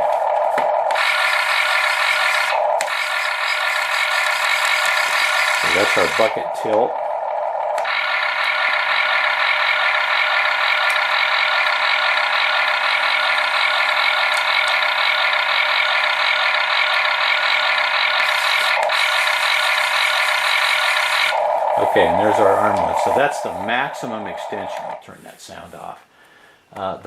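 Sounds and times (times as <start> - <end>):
electric arm-lift drive whirring: 0.0 - 25.0.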